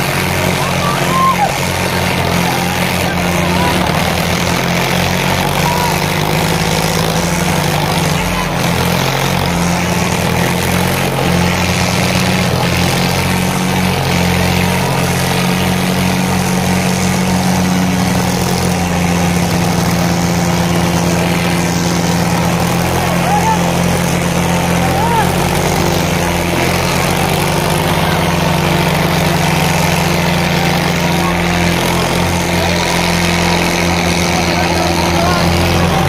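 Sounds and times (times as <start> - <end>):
diesel tractor engines droning: 0.0 - 36.0.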